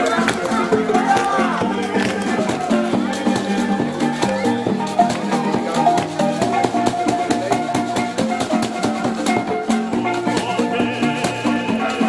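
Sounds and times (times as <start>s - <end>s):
marimbas played with mallets: 0.0s - 12.0s.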